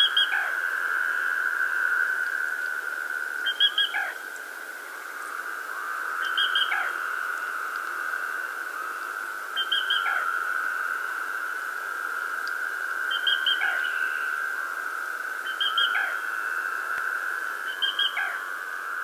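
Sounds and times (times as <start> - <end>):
high unbroken wildlife chorus: 0.0 - 19.0.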